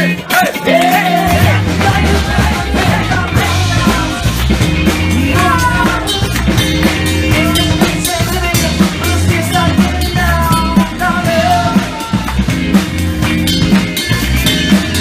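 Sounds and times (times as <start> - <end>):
person singing: 0.0 - 12.4
live rock band playing: 0.0 - 15.0.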